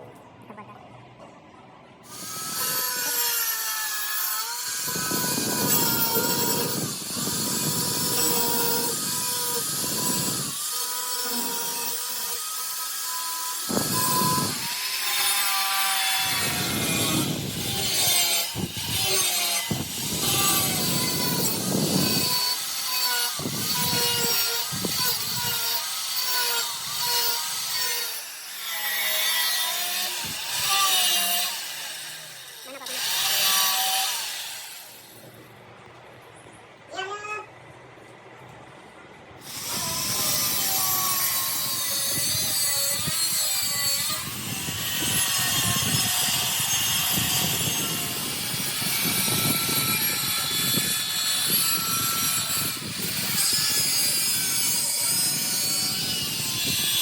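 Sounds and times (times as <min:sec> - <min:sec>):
angle grinder whining: 0:02.1 - 0:35.2, 0:39.4 - 0:57.0.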